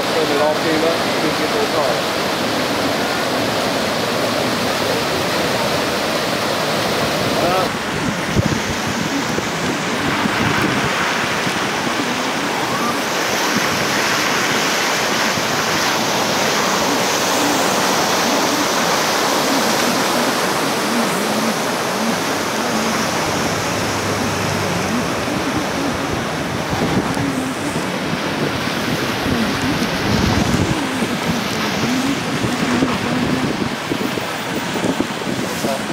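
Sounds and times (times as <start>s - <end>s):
rushing floodwater: 0.0s - 35.9s.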